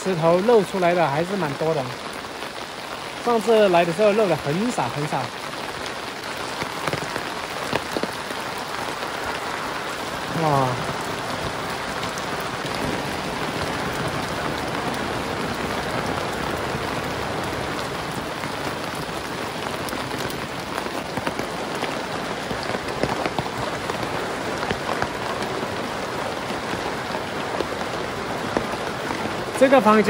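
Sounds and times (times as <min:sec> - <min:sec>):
heavy rain hiss: 0:00.0 - 0:30.0
raindrops ticking: 0:00.0 - 0:30.0.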